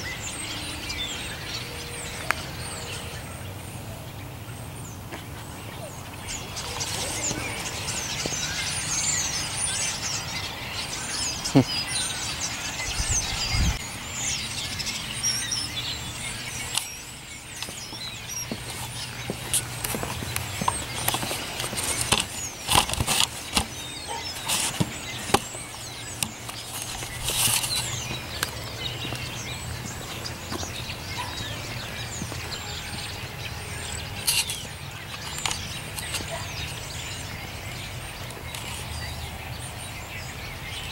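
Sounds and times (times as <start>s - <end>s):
flock of birds chirping: 0.0s - 40.9s.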